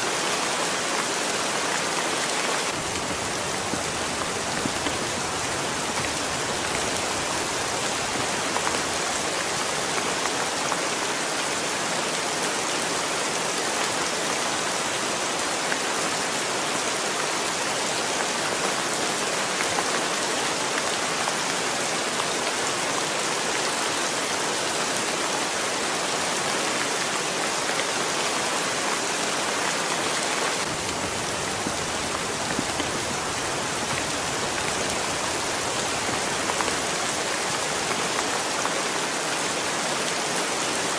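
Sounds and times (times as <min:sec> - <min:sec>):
heavy rain on concrete and leaves: 0:00.0 - 0:40.9.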